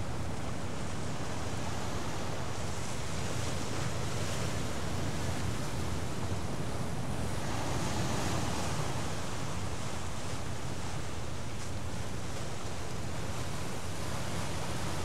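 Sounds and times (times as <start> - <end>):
sea surf: 0.0 - 15.0
wind: 0.0 - 15.0.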